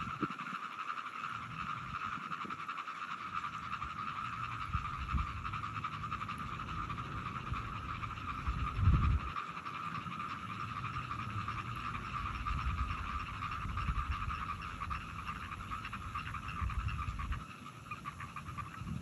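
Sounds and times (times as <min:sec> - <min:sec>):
frogs calling: 0:00.0 - 0:19.0.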